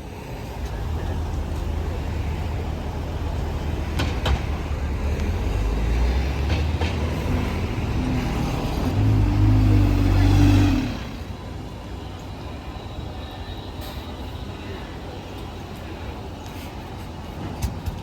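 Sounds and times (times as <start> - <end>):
bus engine droning: 0.0 - 17.9
traffic noise: 0.0 - 18.0.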